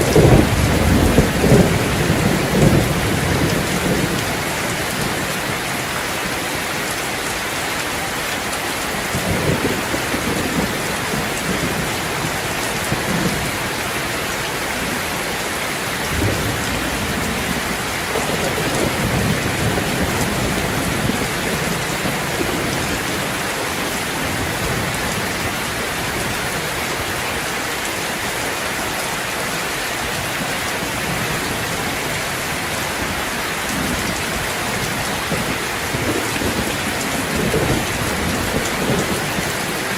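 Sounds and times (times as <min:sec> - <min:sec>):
thunder rumbling: 0:00.0 - 0:06.0, 0:09.0 - 0:26.8, 0:30.2 - 0:39.9
heavy rain: 0:00.0 - 0:39.9.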